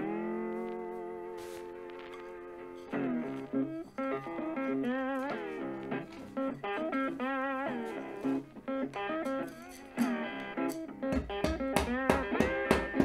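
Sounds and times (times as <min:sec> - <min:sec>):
slow bluesy guitar melody: 0:00.0 - 0:13.0.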